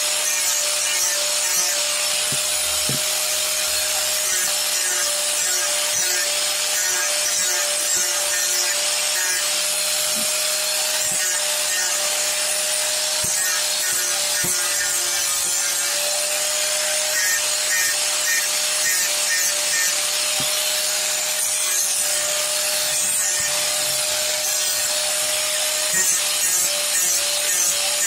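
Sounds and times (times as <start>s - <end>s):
angle grinder grinding wood: 0.0s - 28.0s.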